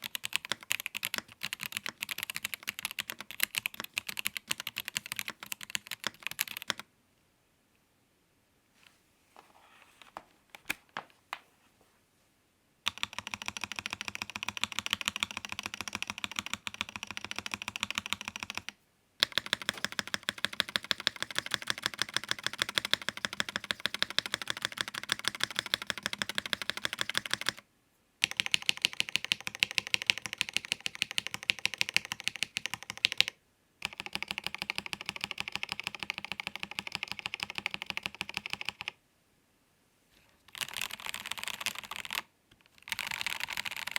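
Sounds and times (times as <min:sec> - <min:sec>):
mechanical keyboard typing: 0:00.0 - 0:06.9, 0:12.9 - 0:27.6, 0:28.2 - 0:39.0, 0:40.5 - 0:43.9.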